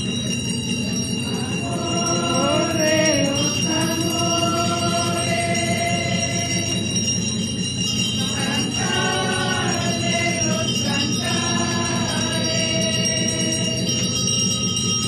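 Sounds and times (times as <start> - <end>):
bells jingling: 0.0 - 15.0
hymn sung with music: 1.2 - 14.5.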